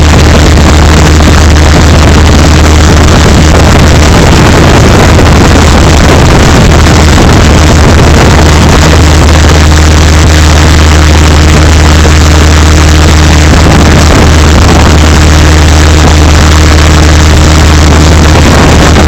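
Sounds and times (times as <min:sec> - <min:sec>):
distorted aircraft engine drone: 0:00.0 - 0:19.0.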